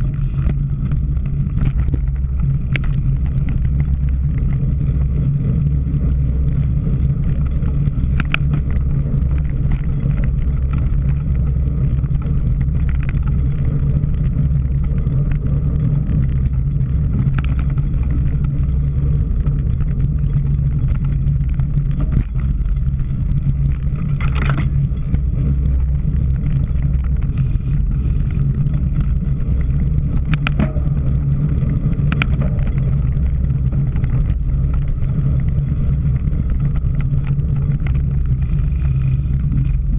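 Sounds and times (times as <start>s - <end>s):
bike clicks and ticks: 0.0s - 39.9s
wind rushing over microphone: 0.0s - 39.9s.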